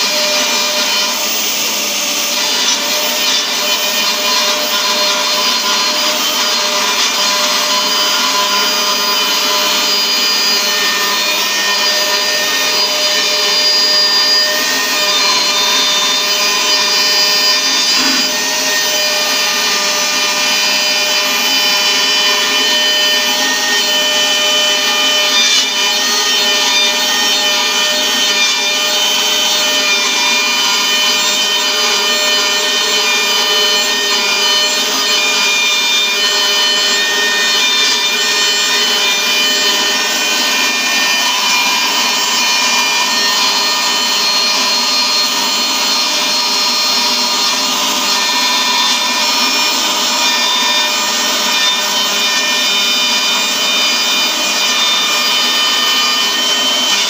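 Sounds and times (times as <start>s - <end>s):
cutter grinding metal: 0.0s - 57.0s
milling machine motor whining: 0.0s - 57.0s.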